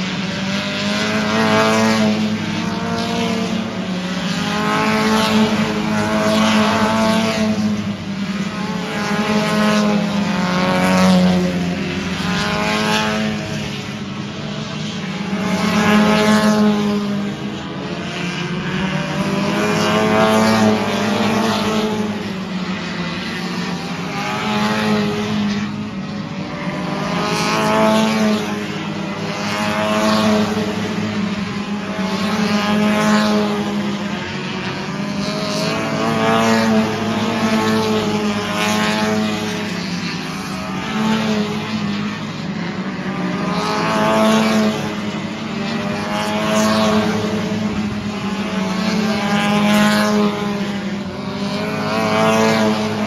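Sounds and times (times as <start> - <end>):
drone of racing engines: 0.0 - 53.0
race cars passing by: 0.0 - 53.0.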